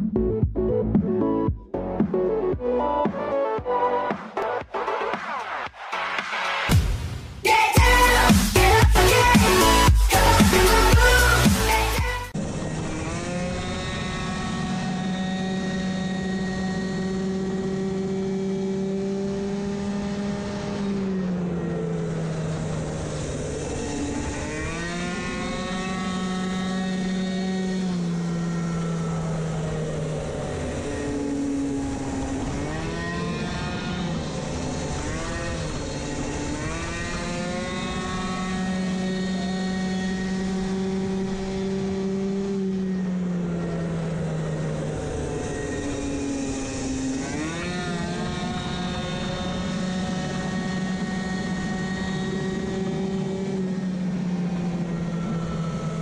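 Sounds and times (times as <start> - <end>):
two-stroke moped engine revving: 7.8 - 56.0.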